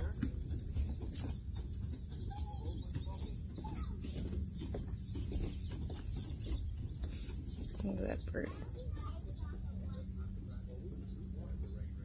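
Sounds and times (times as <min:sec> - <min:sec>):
footsteps on wooden boardwalk: 0:00.0 - 0:11.8.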